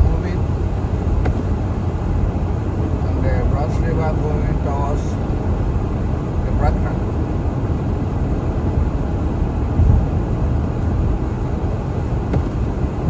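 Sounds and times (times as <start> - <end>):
tyre and road noise: 0.0 - 3.9, 5.0 - 13.0
car driving on highway: 0.0 - 13.0.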